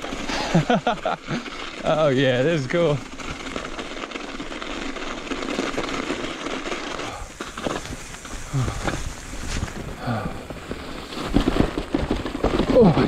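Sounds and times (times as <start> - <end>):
bike knocks and rattles: 0.0 - 13.0
bike tyres crunching over snow: 0.0 - 13.0.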